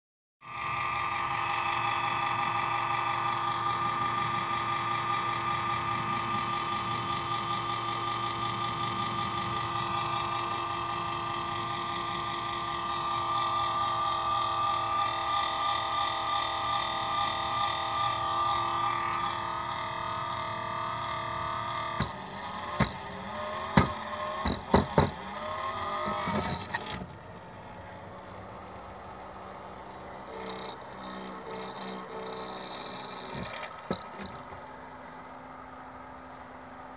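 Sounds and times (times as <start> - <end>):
cooling fan whine: 0.4 - 36.9.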